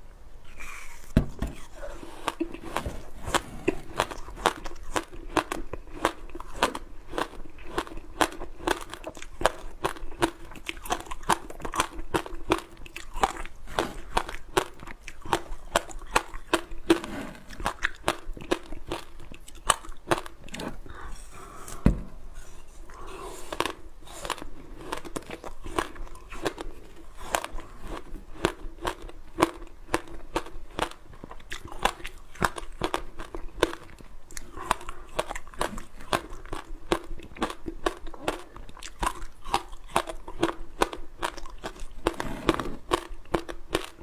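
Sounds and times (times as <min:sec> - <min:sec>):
crunching frozen fruit: 0:00.5 - 0:21.2, 0:22.9 - 0:44.0.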